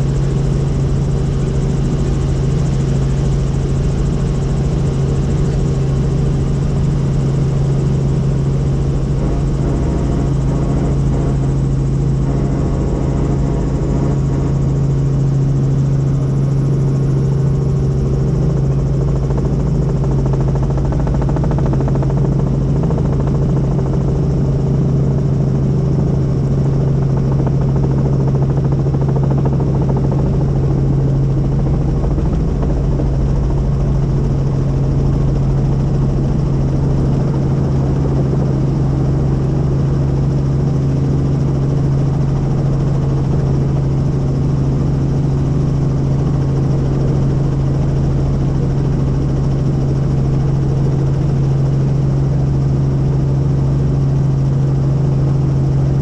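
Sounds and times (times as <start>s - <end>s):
helicopter drone: 0.0s - 56.0s.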